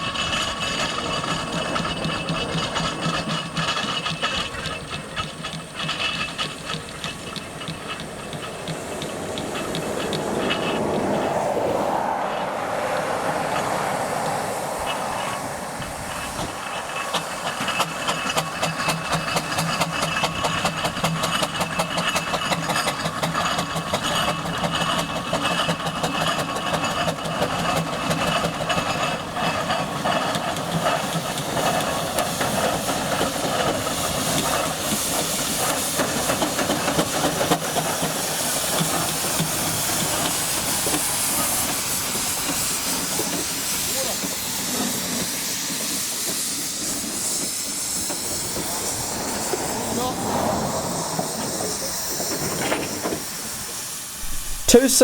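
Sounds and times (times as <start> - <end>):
steam engine hissing steam: 0.0 - 55.0.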